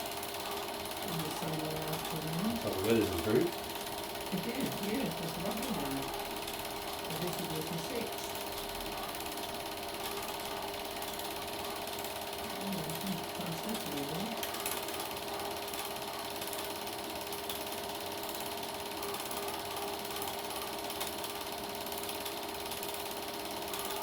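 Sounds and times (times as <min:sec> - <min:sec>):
film projector rattling: 0:00.0 - 0:24.0.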